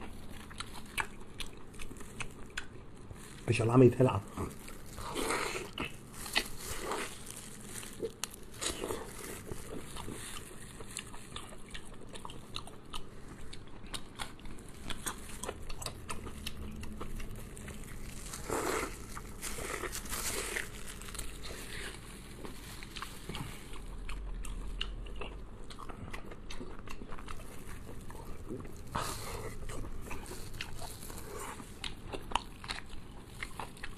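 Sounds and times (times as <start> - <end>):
crunchy bites and chewing: 0.0 - 33.9.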